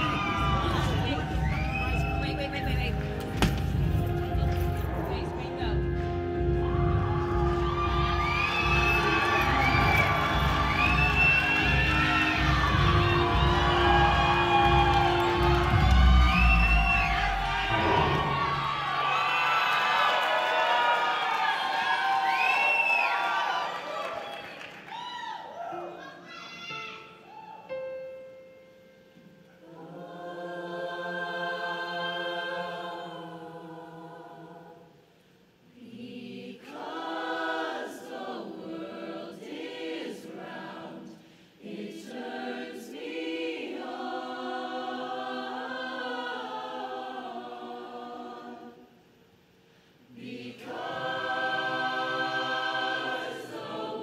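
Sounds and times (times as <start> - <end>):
choir singing in harmony: 0.0 - 23.8, 29.2 - 54.0.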